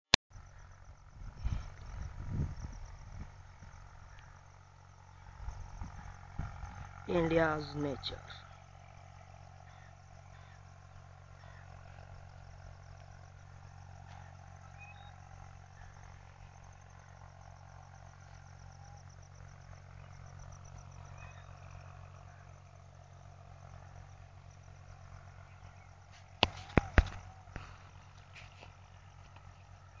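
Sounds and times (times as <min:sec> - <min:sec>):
insects trilling: 0:00.3 - 0:30.0
steady low hum: 0:00.3 - 0:30.0.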